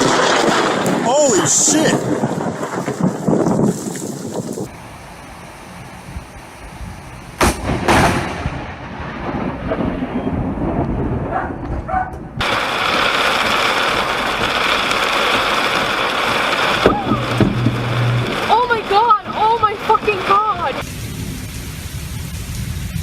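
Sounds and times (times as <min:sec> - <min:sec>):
thunder crack: 0:00.0 - 0:04.7, 0:07.4 - 0:21.4
thunder rumbling: 0:00.0 - 0:23.0.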